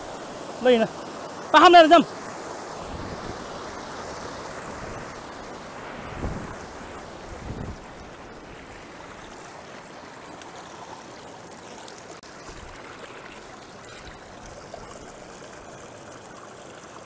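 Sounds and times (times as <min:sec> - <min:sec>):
river water rushing over rocks: 0:00.0 - 0:17.0.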